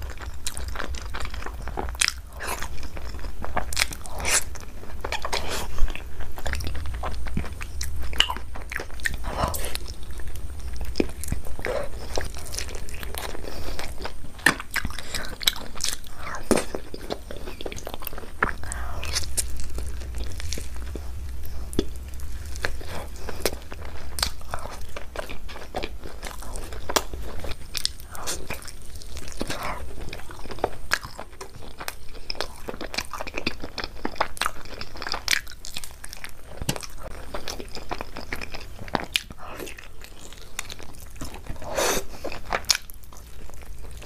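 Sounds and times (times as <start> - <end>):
person chewing and biting meat: 0.0 - 44.0.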